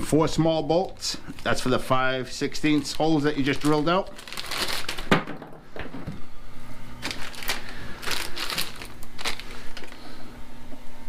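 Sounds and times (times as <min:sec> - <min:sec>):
plastic bag rustling: 0:00.2 - 0:06.2, 0:06.9 - 0:10.2.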